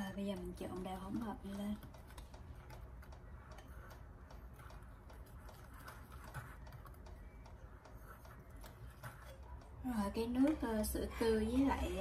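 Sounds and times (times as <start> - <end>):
whisk ticking against bowl: 0.0 - 11.8.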